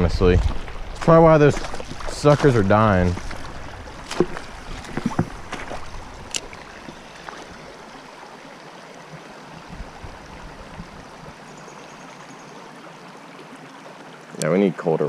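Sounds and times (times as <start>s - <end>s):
creek water running over stones: 0.0s - 15.0s.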